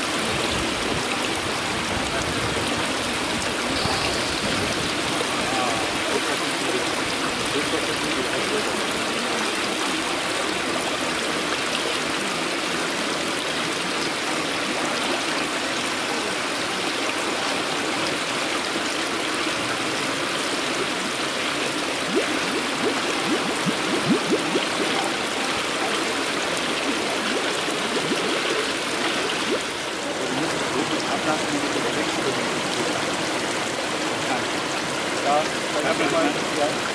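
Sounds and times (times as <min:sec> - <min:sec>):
running water: 0:00.0 - 0:36.9.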